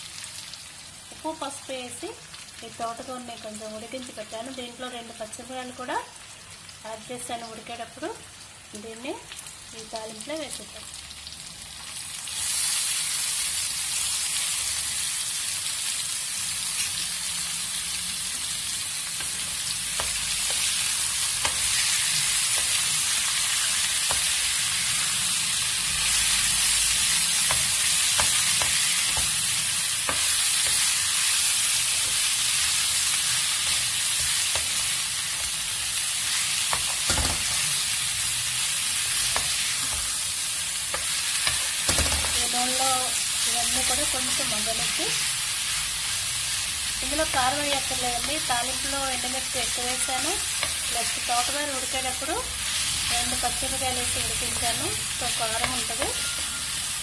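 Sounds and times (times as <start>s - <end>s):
leaves sizzling in hot oil: 0.0s - 57.0s.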